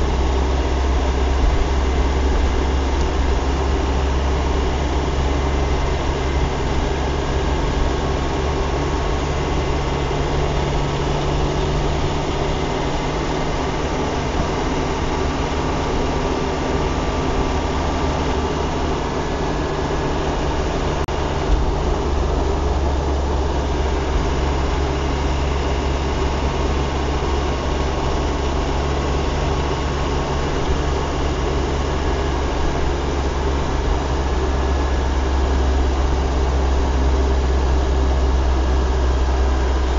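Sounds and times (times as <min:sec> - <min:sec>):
car engine hum: 0:00.0 - 0:39.9.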